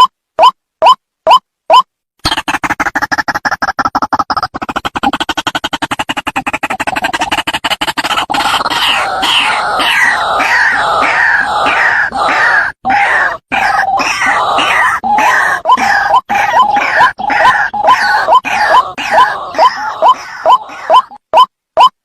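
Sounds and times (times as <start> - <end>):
harsh noisy croaking: 2.2 - 21.2.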